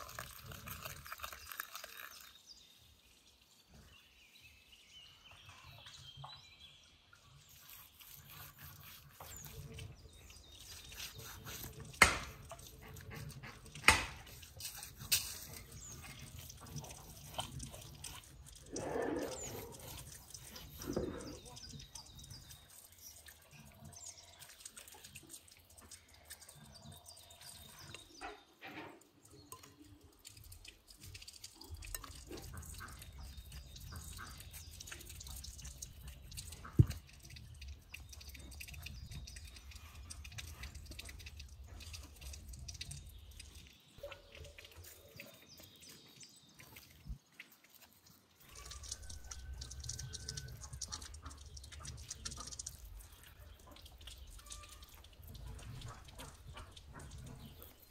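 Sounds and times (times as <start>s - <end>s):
wet squelching of raw meat: 7.4s - 27.8s, 29.4s - 57.9s.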